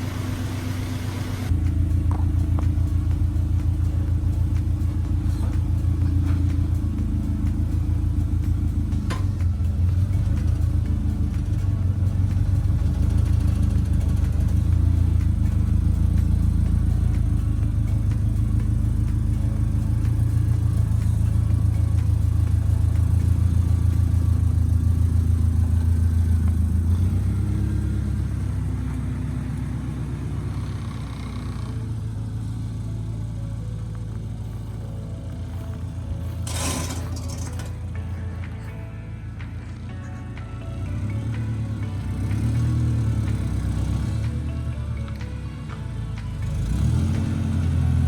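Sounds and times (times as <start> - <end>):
car engine through straight-pipe exhaust: 0.0 - 48.0.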